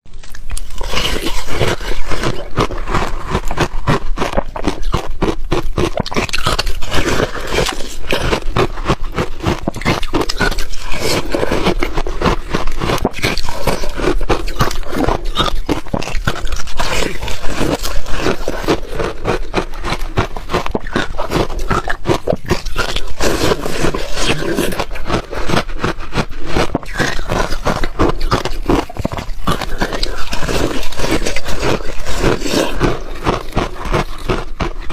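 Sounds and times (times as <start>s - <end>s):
ice being crunched and chewed: 0.1s - 34.9s.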